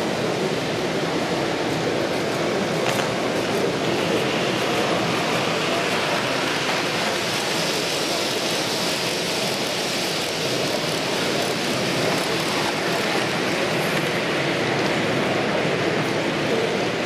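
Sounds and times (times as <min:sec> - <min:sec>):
exhibition hall din: 0:00.0 - 0:17.0
model trains rumbling on track: 0:00.0 - 0:17.0.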